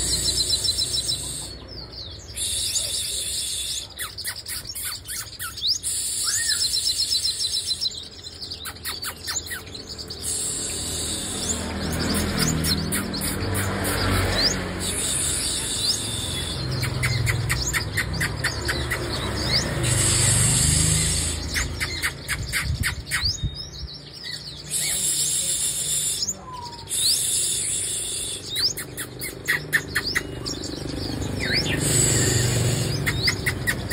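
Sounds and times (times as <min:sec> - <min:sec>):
bird chirping and trilling: 0:00.0 - 0:33.9.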